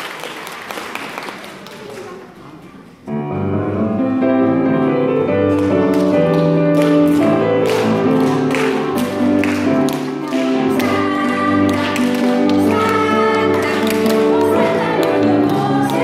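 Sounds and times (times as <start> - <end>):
keyboard melody and chords: 3.1 - 16.0.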